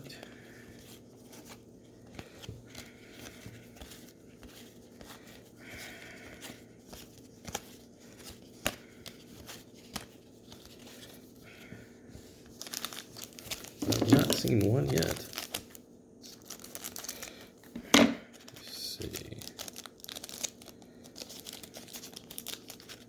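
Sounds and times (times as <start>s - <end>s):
cards rustling and clicking: 0.2s - 23.0s.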